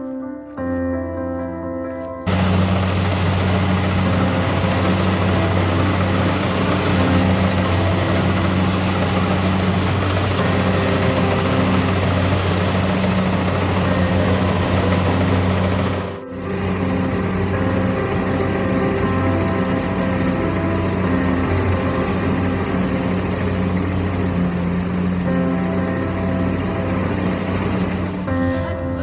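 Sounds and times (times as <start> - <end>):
harvester engine droning: 2.2 - 29.0.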